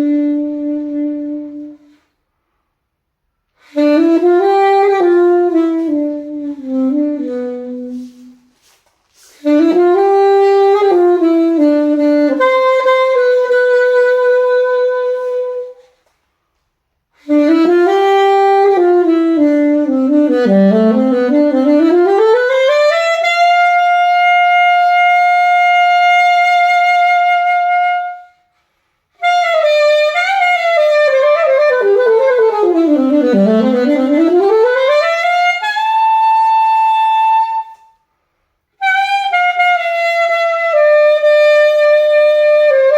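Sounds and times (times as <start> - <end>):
alto saxophone solo: 0.0 - 2.3, 3.5 - 16.2, 17.0 - 42.9.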